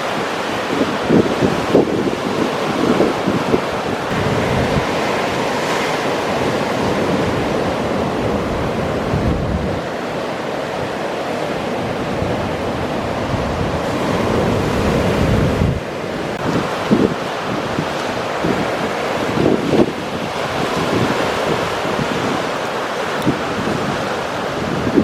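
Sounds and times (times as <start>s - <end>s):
ocean waves washing in: 0.0s - 25.0s
wind buffeting microphone: 0.0s - 25.0s.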